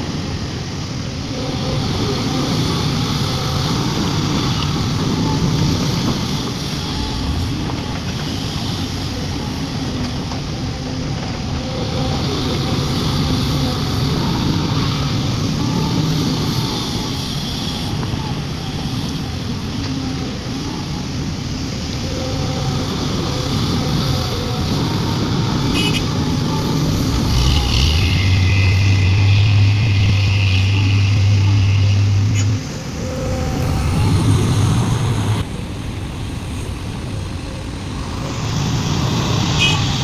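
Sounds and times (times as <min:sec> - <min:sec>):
diesel excavator engine: 0:00.0 - 0:40.0
engine drone with high whine: 0:00.0 - 0:40.0.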